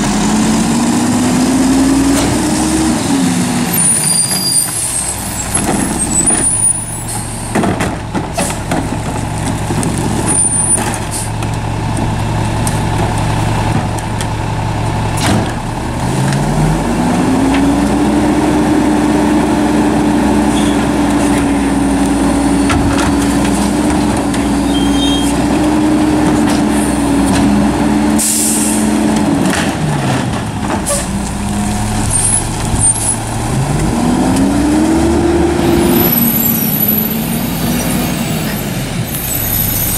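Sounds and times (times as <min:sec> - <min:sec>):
garbage truck diesel engine revving: 0:00.0 - 0:07.7, 0:08.5 - 0:39.9.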